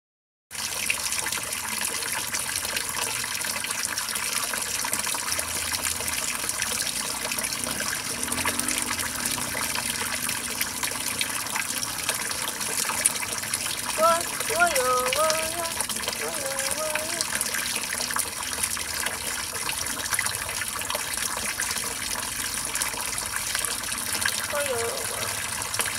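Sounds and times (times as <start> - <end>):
water splashing onto stone floor: 0.6 - 25.9.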